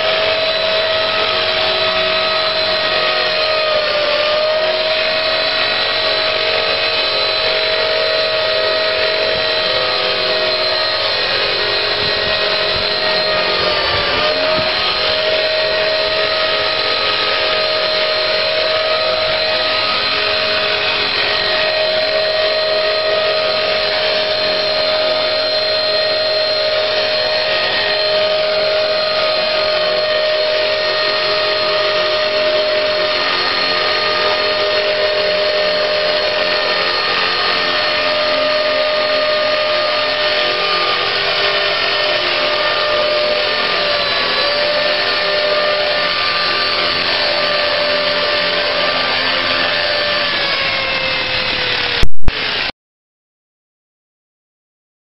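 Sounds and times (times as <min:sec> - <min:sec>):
electric motor whine: 0:00.0 - 0:52.7
helicopter rotor rush: 0:00.0 - 0:52.7.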